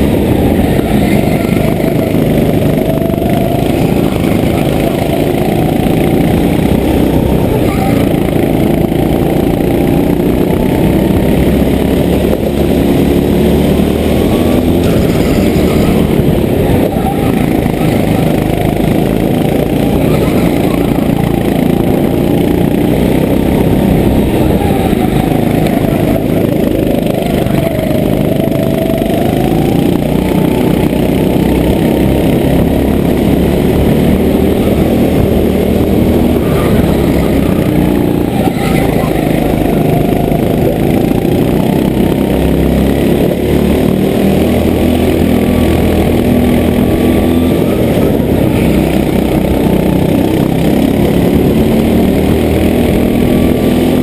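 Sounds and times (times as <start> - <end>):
go-kart engine running: 0.0 - 54.0
second go-kart engine: 0.0 - 54.0.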